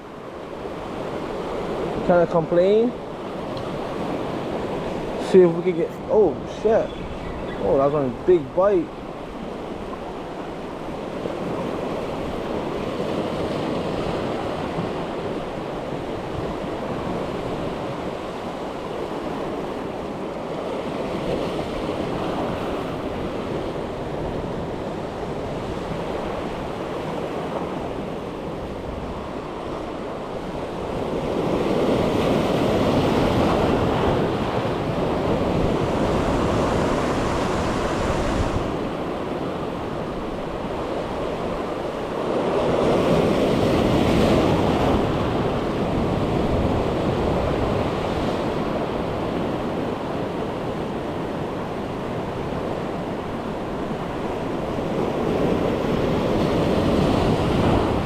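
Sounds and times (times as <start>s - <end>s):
ocean surf washing ashore: 0.0s - 58.0s.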